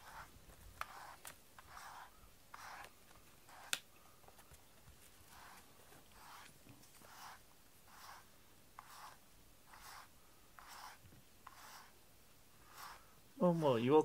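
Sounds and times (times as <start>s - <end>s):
brush strokes through cat fur: 0.0s - 3.8s, 5.1s - 14.0s.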